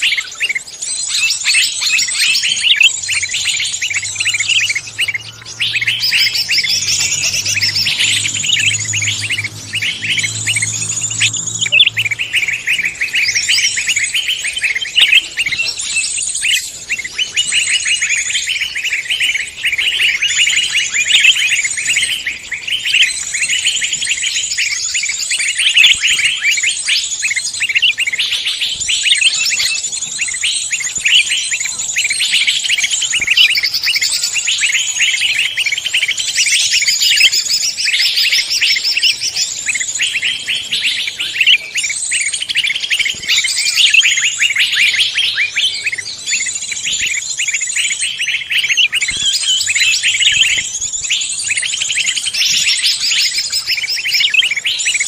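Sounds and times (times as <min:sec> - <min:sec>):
songbird chirps and trills: 0:00.0 - 0:55.0.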